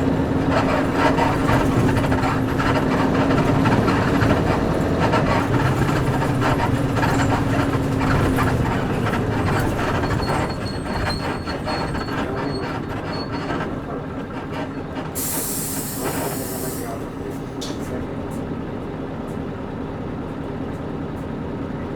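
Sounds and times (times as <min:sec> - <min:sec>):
bus body creaking and rattling: 0:00.0 - 0:21.9
bus diesel engine drone: 0:00.0 - 0:21.9.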